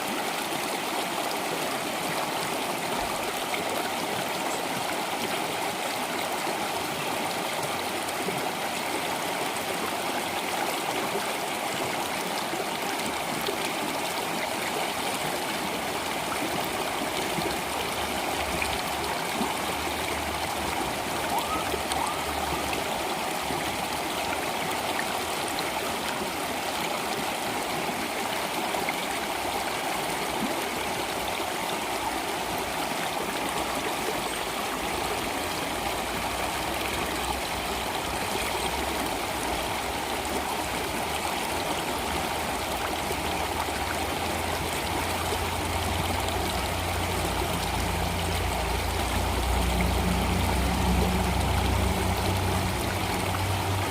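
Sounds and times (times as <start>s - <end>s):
stream water rushing and babbling: 0.0s - 53.9s.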